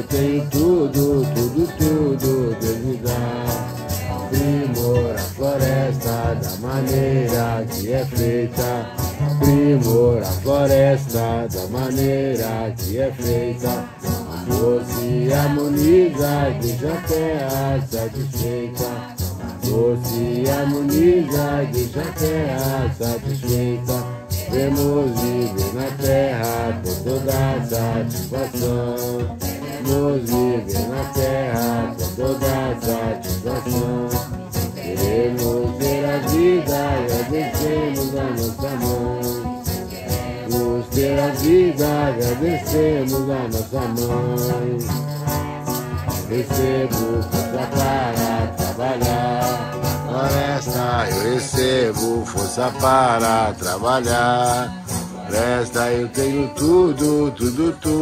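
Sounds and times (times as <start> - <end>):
group singing a hymn: 0.0 - 58.0
maracas shaking: 0.0 - 58.0
strummed acoustic guitars: 0.0 - 58.0.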